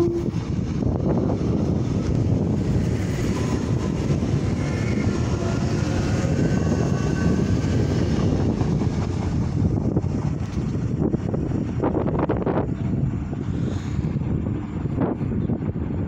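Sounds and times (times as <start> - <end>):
faint train whine: 0.0 - 16.0
train cars rumbling past: 0.0 - 16.0.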